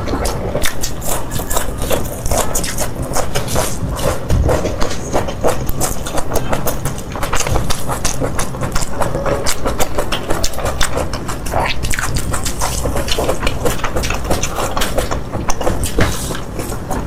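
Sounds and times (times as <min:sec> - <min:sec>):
slurping: 0:00.0 - 0:17.0
wet chewing of noodles: 0:00.0 - 0:17.0.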